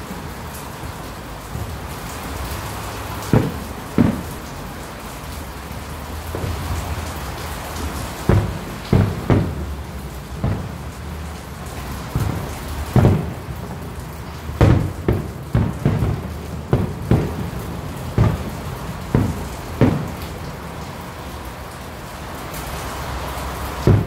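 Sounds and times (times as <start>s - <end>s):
distant fireworks bursting: 0.0s - 21.8s, 23.6s - 24.0s
steady rain: 0.0s - 24.0s.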